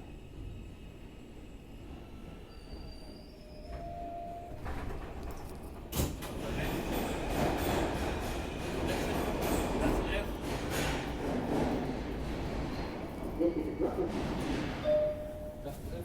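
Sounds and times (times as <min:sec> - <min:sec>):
subway car running noise: 0:00.0 - 0:16.0.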